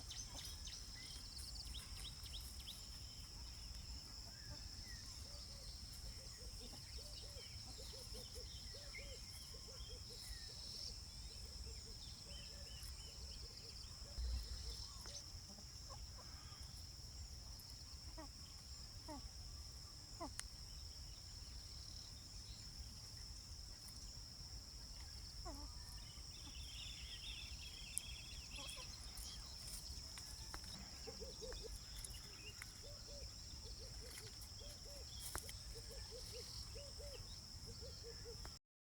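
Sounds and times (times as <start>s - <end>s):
birds twittering: 0.0s - 16.9s, 17.5s - 38.6s
insects droning: 0.0s - 38.6s.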